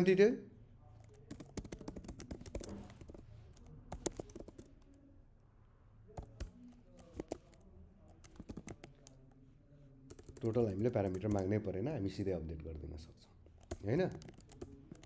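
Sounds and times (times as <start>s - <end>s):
computer keyboard typing: 1.0s - 5.2s, 6.1s - 9.4s, 10.0s - 15.0s.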